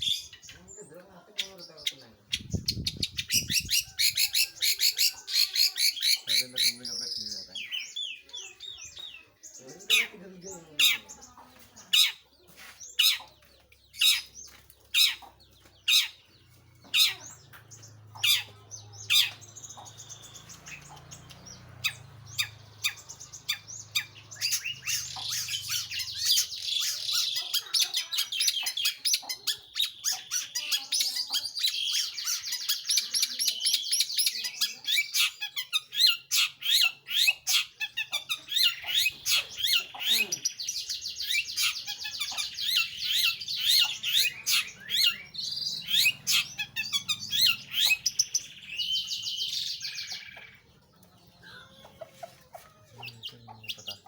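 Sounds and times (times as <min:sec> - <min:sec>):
shrike chattering song: 0:00.0 - 0:54.0.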